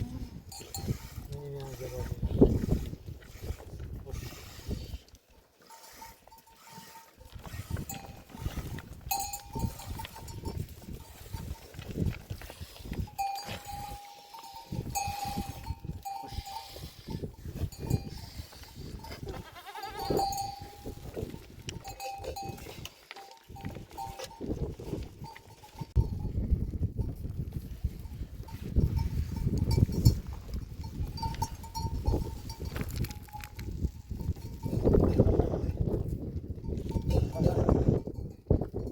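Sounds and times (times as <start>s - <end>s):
livestock neck bells clanking: 0.5s - 1.3s, 5.6s - 38.9s.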